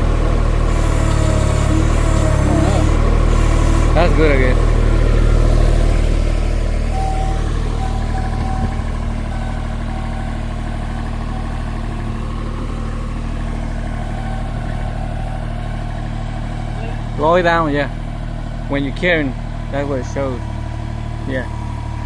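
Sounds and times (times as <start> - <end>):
skid steer loader engine running: 0.0 - 22.0.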